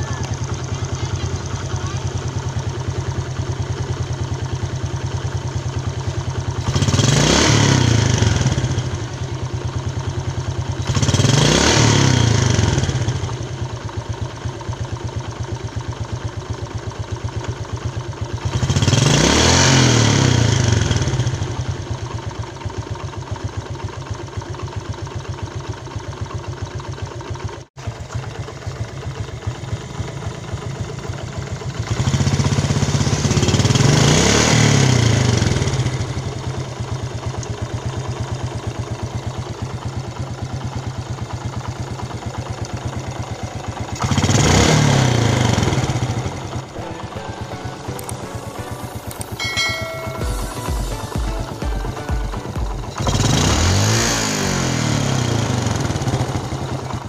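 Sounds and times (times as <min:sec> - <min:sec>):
motorcycle engine idling roughly: 0:00.0 - 0:57.0
motorcycle engine revving: 0:00.0 - 0:57.0.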